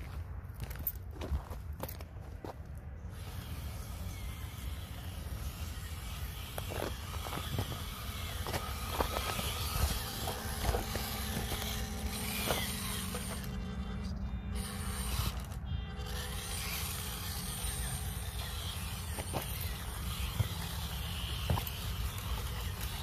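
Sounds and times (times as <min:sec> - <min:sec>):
small electric motor whining: 0:03.0 - 0:23.0.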